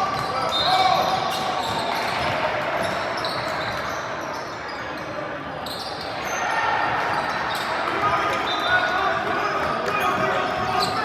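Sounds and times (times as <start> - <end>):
crowd hubbub in echoing gym: 0.0 - 11.0.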